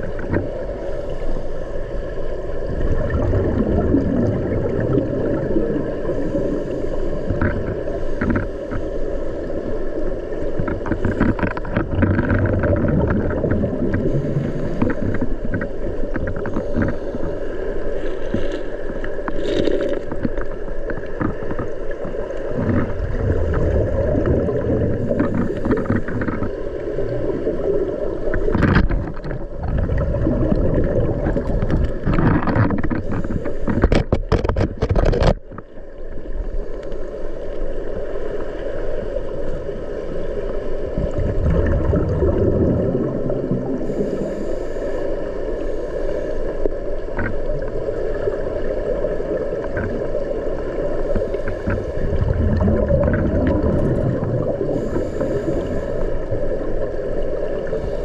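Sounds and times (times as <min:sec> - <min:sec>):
clicks and knocks underwater: 0:00.0 - 0:00.7, 0:02.6 - 0:09.6, 0:10.3 - 0:37.7, 0:40.8 - 0:44.5, 0:46.6 - 0:58.0
muffled underwater waterfall rumble: 0:00.0 - 0:58.0.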